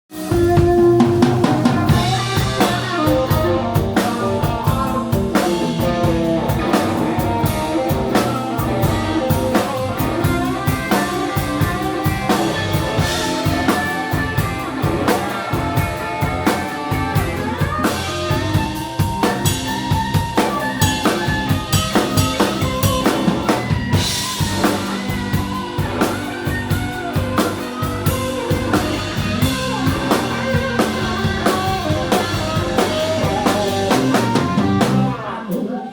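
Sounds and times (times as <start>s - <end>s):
drum kit beat: 0.1s - 35.7s
live rock band playing: 0.1s - 35.9s.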